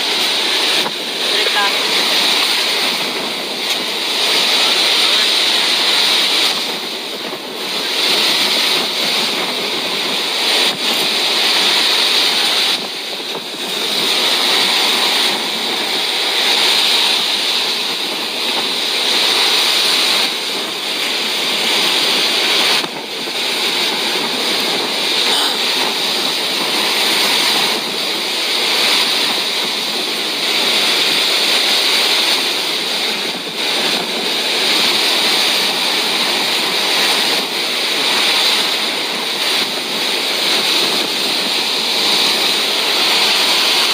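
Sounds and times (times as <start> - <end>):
rushing water: 0.0 - 43.9
strong wind: 0.0 - 43.9.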